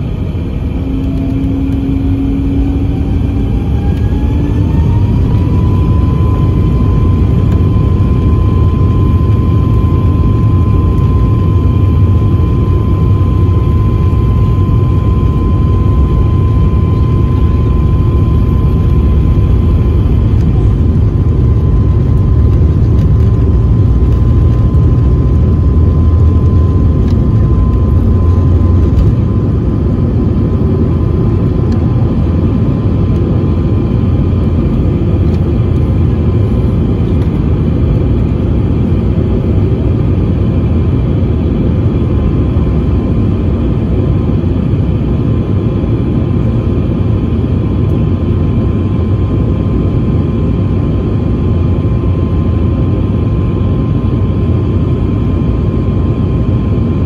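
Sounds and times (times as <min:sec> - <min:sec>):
airliner engines low rumble: 0:00.0 - 0:57.0
high engine whine: 0:00.0 - 0:57.0.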